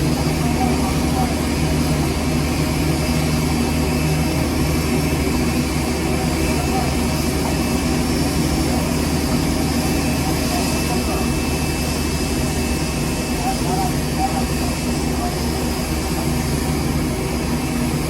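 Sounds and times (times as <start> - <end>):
jet engines droning: 0.0 - 18.0.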